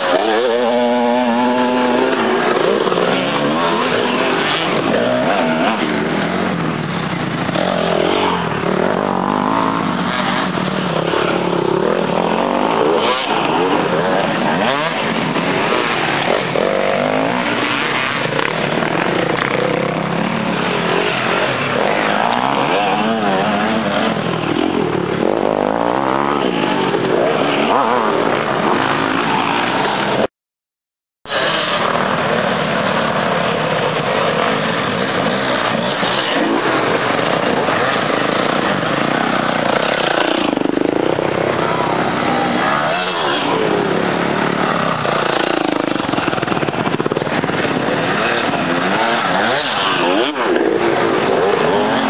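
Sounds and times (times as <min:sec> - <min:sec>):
dirt bike engines revving: 0:00.0 - 0:30.3, 0:31.3 - 0:52.0.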